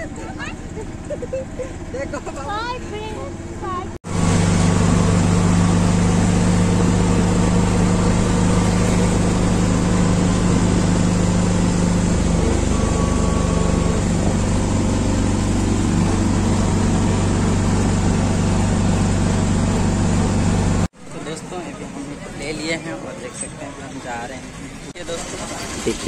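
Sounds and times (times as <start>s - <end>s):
auto-rickshaw engine running: 0.0s - 26.0s
road noise: 0.0s - 26.0s.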